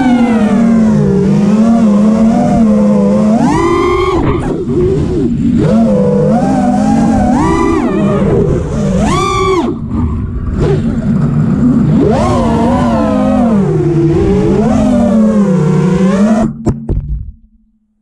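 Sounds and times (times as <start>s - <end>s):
quadcopter motors whining: 0.0s - 16.6s.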